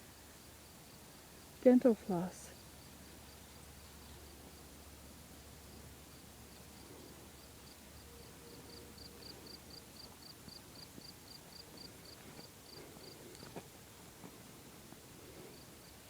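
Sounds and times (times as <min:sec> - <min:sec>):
cricket chirping: 0:02.5 - 0:16.0.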